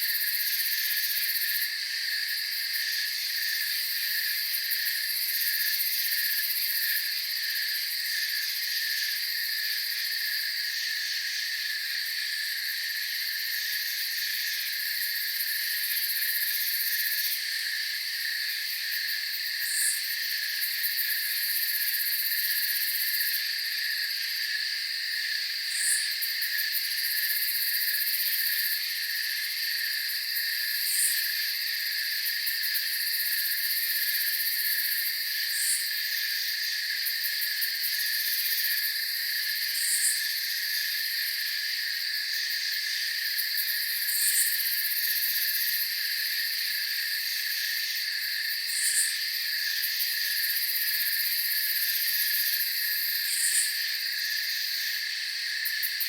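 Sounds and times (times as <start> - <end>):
crickets and insects trilling: 0.0 - 56.0.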